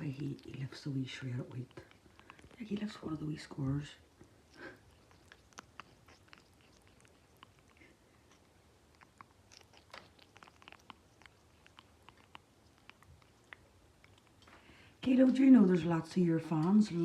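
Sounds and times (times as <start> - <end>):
parrot beak crunching cereal: 0.0 - 14.8.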